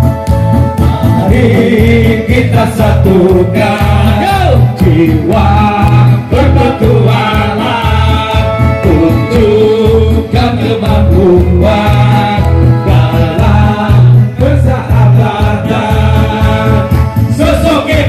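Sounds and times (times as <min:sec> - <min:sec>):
electronic keyboard: 0:00.0 - 0:18.0
heavy bass beat: 0:00.0 - 0:18.0
voices singing into microphones: 0:00.8 - 0:18.0.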